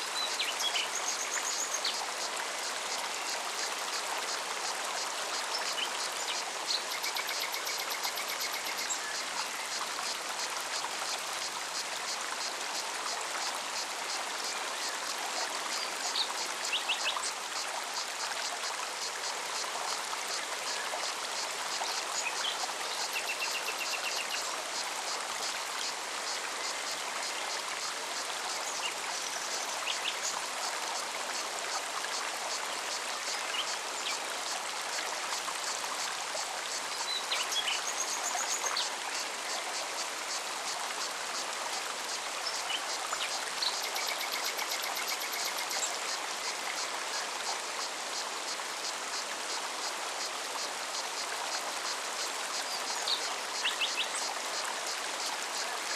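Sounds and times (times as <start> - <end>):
mountain stream running: 0.0 - 55.9.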